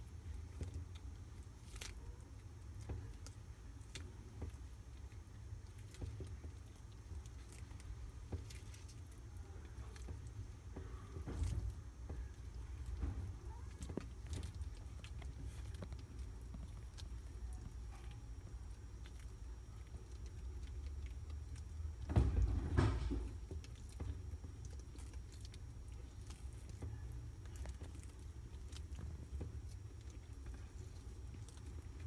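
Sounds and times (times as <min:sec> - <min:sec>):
low steady rumble: 0:00.0 - 0:32.0
tortoises crunching lettuce: 0:00.0 - 0:32.0.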